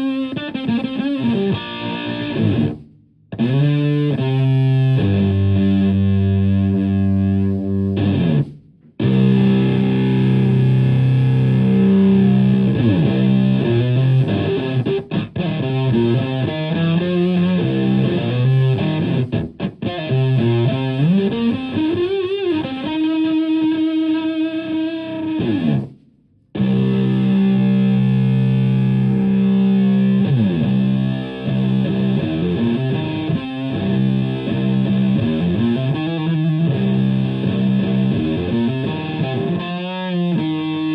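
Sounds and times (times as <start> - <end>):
fuzzed electric guitar chords: 0.0 - 26.0, 26.6 - 40.9.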